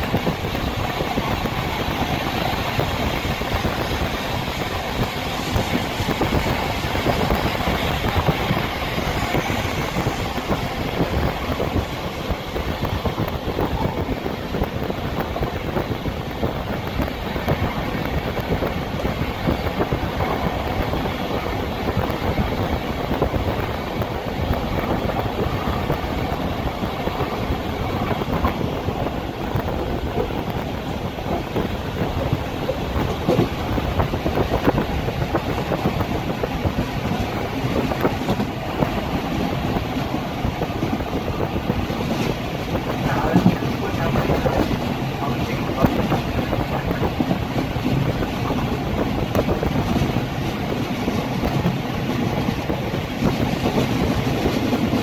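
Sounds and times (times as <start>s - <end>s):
train wheels rumbling and rattling: 0.0s - 55.0s.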